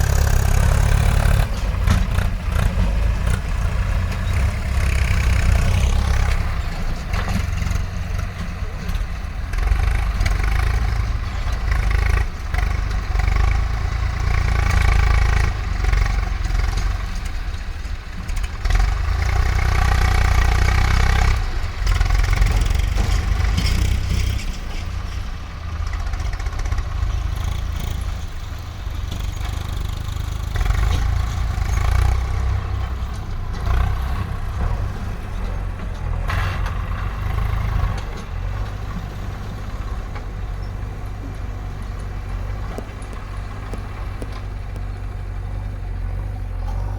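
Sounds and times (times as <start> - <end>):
heavy diesel machinery engine: 0.0 - 46.9.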